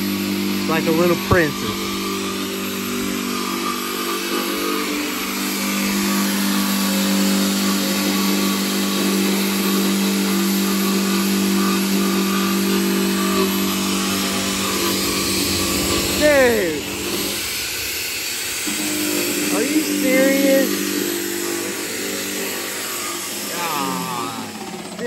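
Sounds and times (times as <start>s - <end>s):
motor running steadily: 0.0s - 25.0s.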